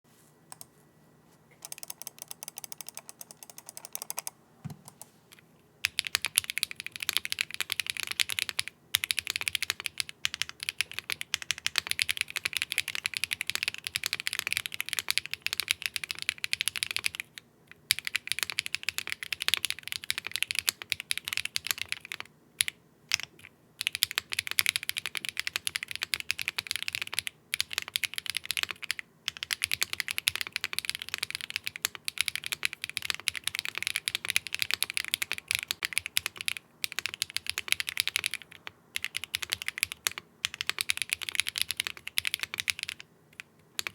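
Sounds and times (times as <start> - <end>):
mechanical keyboard typing: 1.6 - 43.9.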